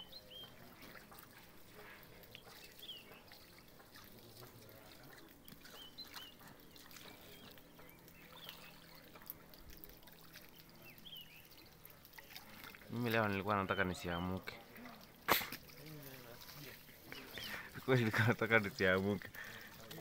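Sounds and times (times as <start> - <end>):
water trickling from hose: 0.0 - 20.0.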